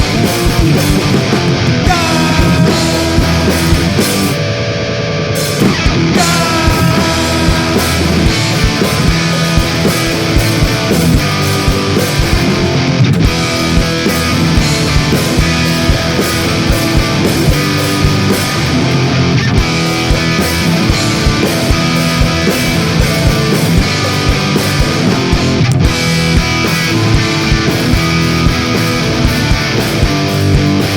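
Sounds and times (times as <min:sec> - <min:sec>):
loud rock music: 0:00.0 - 0:30.9.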